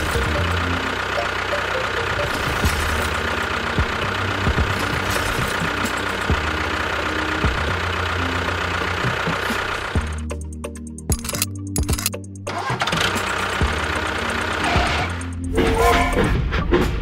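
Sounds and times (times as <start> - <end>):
tractor engine knocking idle: 0.0 - 10.6, 11.3 - 15.5.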